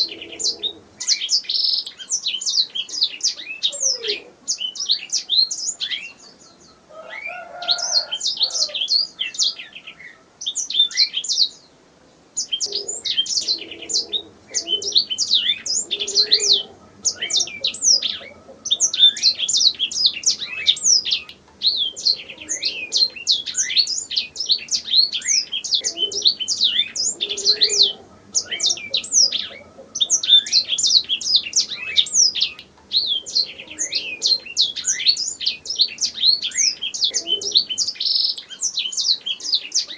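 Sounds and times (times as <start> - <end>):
canary singing trills: 0.0 - 11.7, 12.4 - 39.9.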